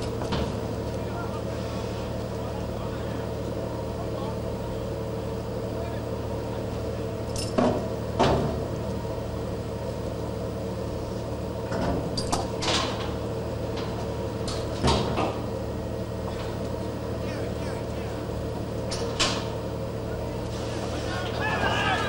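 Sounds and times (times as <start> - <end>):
ship engine hum: 0.0 - 22.0.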